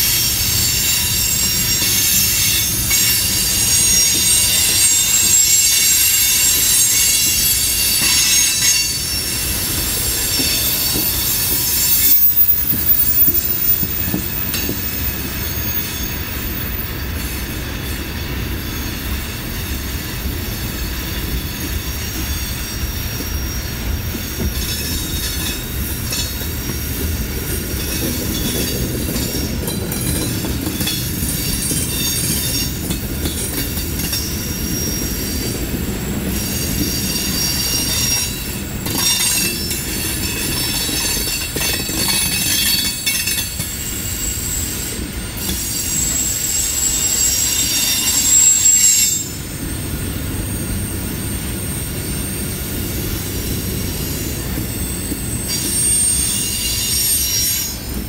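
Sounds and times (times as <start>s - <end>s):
train cars rumbling on trestle: 0.0s - 58.0s
train wheel squeal: 0.0s - 58.0s.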